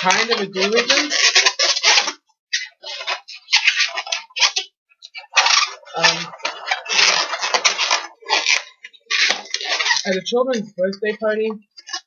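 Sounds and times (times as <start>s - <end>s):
balloons rubbing and squeaking: 0.0s - 12.0s.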